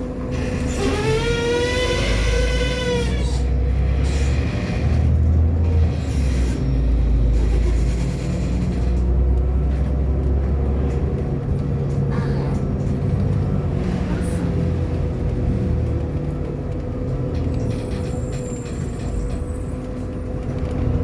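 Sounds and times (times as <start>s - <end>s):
bus engine drone: 0.0s - 21.0s
road rumble: 0.0s - 21.0s.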